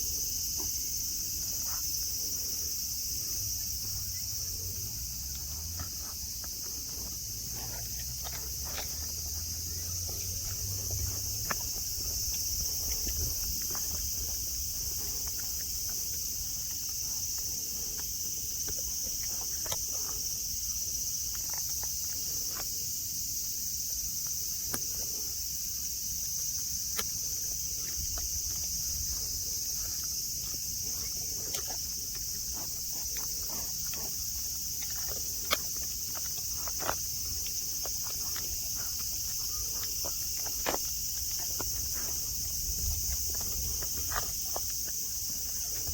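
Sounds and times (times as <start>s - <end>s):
cicadas droning: 0.0s - 45.9s.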